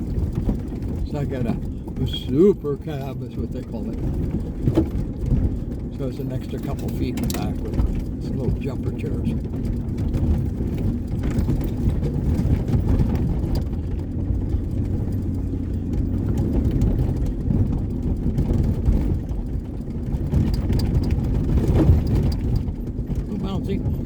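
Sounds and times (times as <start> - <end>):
light rattling: 0.0 - 24.0
truck engine and tyre rumble: 0.0 - 24.0.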